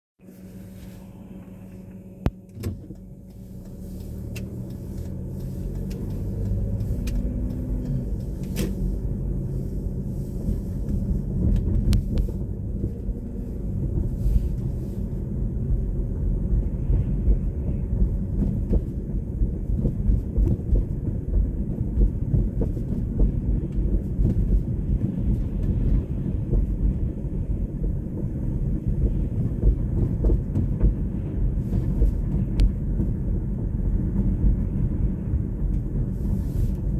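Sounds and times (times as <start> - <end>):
car engine and road rumble: 0.2 - 36.9.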